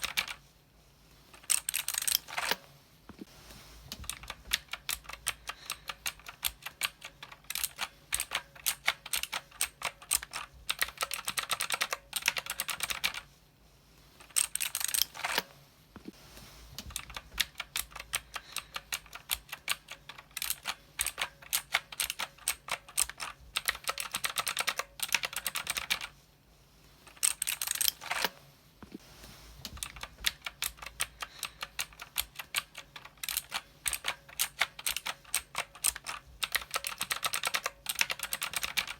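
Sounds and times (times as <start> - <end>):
mechanical keyboard typing: 0.0 - 0.4, 1.4 - 2.6, 3.9 - 13.3, 14.2 - 15.5, 16.8 - 26.1, 27.1 - 28.3, 29.7 - 38.9.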